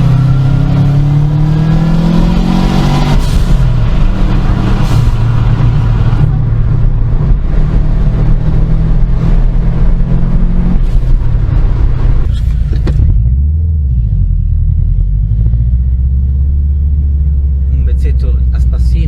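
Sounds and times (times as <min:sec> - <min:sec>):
car engine drone: 0:00.0 - 0:19.0.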